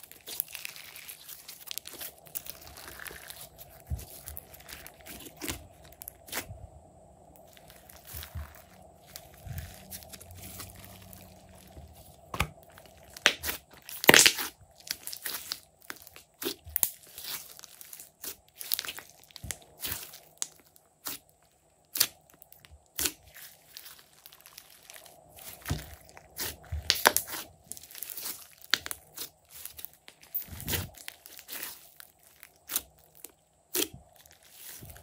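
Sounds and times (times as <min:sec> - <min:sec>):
slime popping and crackling: 0:00.0 - 0:06.5, 0:07.4 - 0:21.2, 0:21.8 - 0:35.0.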